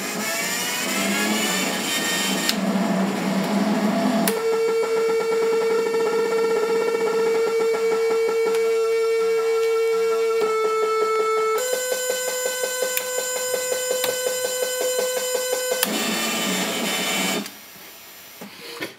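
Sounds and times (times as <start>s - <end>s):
pulsing electronic keyboard drone: 0.0s - 17.4s.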